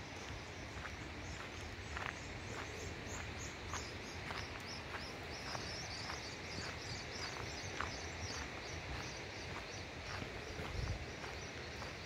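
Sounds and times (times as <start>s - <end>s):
footsteps crunching on dirt: 0.1s - 12.0s.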